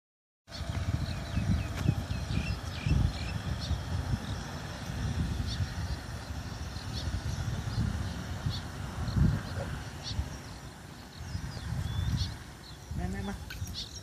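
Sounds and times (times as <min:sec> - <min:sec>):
birds chirping: 0:00.5 - 0:14.0
wind buffeting microphone: 0:00.5 - 0:14.0.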